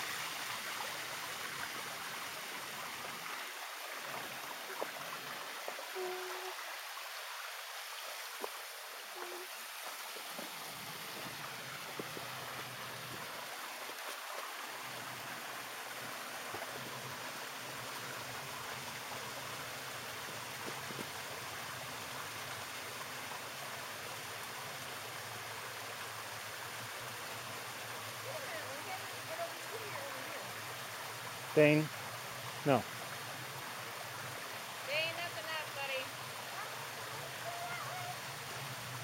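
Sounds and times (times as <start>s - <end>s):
waterfall and running water: 0.0s - 39.0s.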